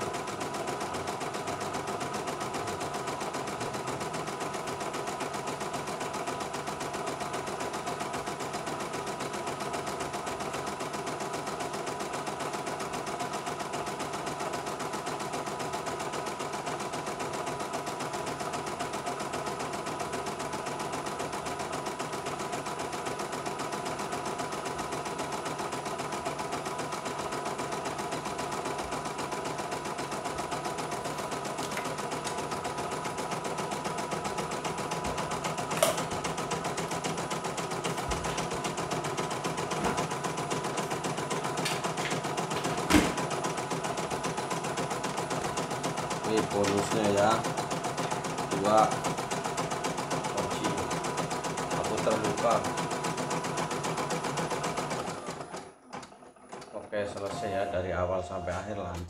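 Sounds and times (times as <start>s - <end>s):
embroidery machine stitching: 0.0s - 57.7s.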